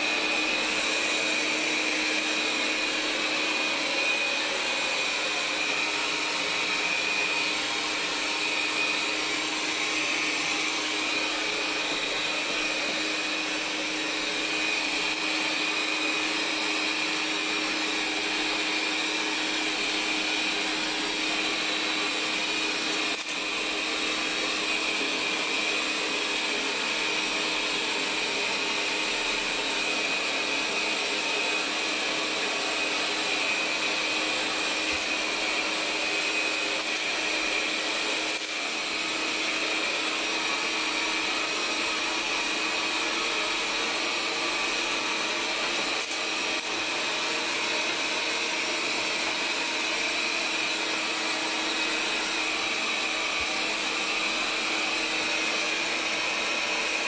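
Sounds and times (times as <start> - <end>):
robot vacuum fan drone: 0.0 - 57.0.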